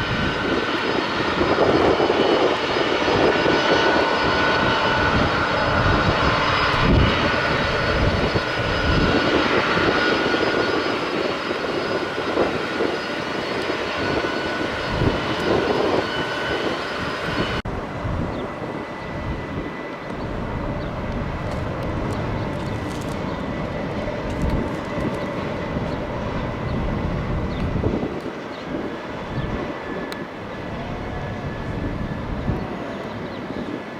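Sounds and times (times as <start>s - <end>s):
airplane engines roaring: 0.0s - 33.9s
engine whine: 0.0s - 33.9s.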